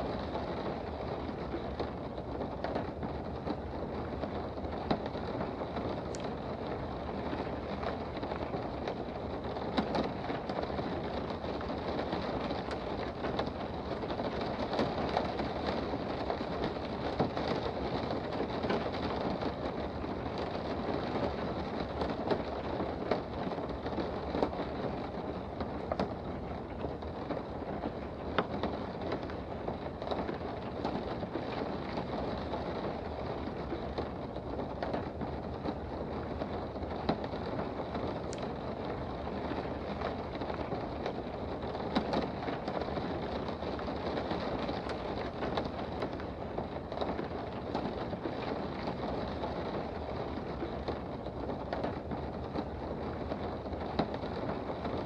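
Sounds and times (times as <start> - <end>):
rain drops ticking: 0.0 - 55.0
steady rain: 0.0 - 55.0.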